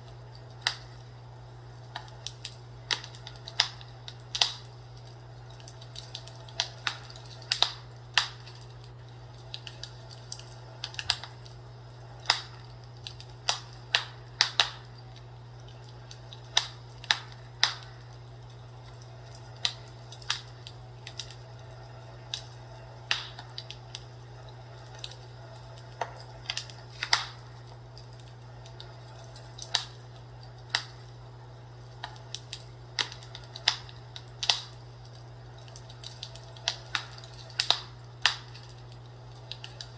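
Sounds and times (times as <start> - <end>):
fire crackling: 0.0 - 39.9
steady low hum: 0.0 - 39.9.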